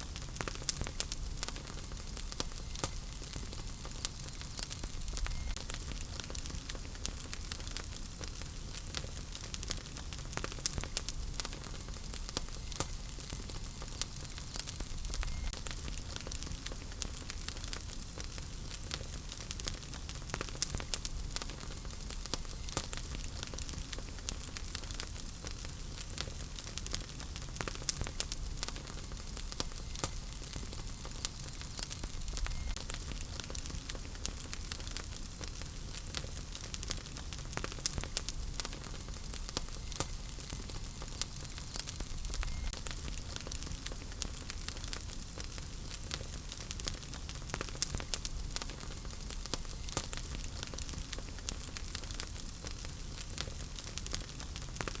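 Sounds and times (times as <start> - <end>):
fire rumbling and hissing: 0.0 - 55.0
wood crackling and popping: 0.0 - 55.0.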